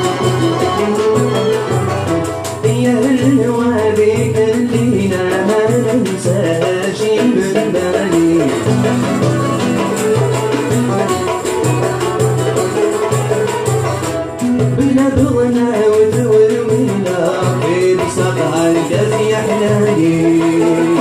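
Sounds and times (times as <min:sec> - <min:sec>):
banjo: 0:00.0 - 0:21.0
frame drum beat: 0:00.0 - 0:21.0
hand percussion: 0:00.0 - 0:21.0
violin: 0:00.0 - 0:21.0.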